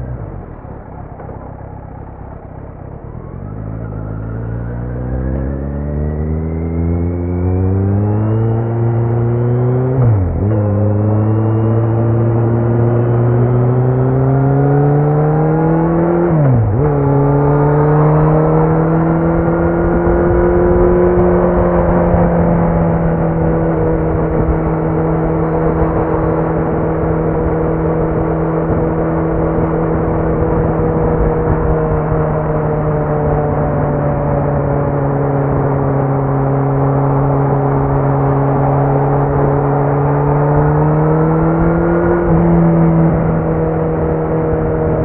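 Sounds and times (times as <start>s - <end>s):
motorcycle engine running: 5.3s - 45.0s.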